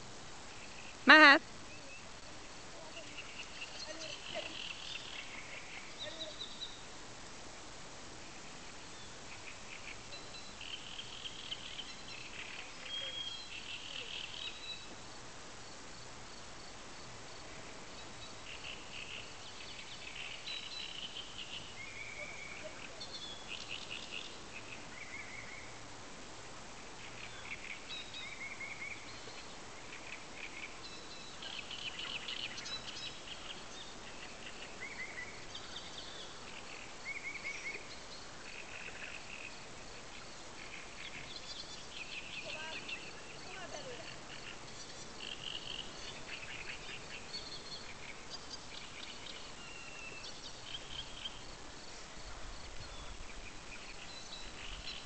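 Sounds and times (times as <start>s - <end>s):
steady background hiss: 0.0s - 55.0s
songbirds singing: 0.4s - 7.7s, 8.4s - 55.0s.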